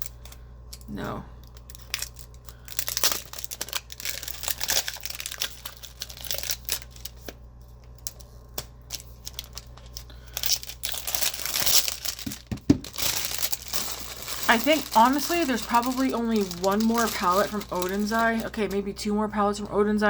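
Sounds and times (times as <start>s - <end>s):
plastic wrap crinkling and tearing: 1.4s - 8.3s, 8.9s - 18.8s.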